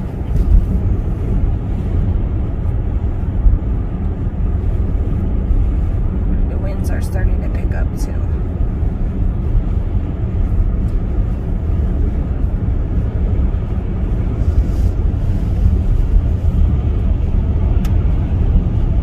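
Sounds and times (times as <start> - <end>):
road and wind noise in car cabin: 0.0 - 19.0.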